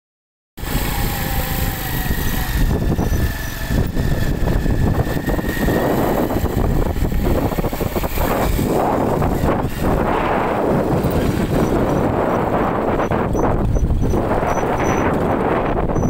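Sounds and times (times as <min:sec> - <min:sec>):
motorcycle engine running: 0:00.6 - 0:16.0
wind buffeting microphone: 0:00.6 - 0:16.0.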